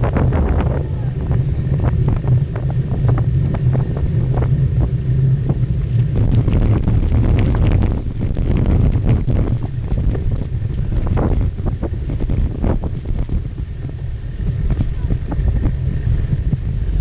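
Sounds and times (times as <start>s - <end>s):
bike rattles and clicks: 0.0s - 17.0s
wind buffeting microphone: 0.0s - 17.0s.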